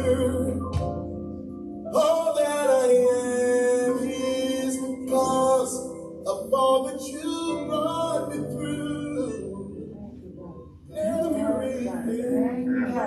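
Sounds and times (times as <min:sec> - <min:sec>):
gospel singing: 0:00.0 - 0:01.2, 0:01.9 - 0:13.0.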